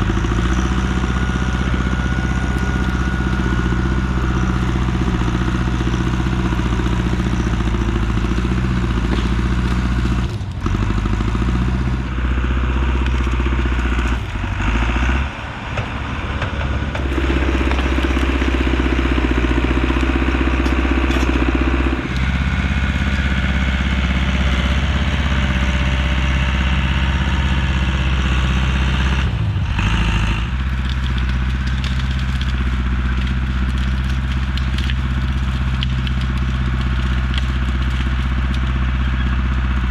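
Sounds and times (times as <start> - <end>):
heavy equipment engine running hard: 0.0 - 39.9.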